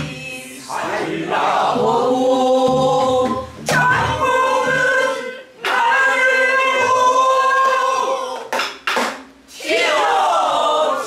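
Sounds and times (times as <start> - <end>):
group singing folk song: 0.0 - 8.5, 9.5 - 11.0.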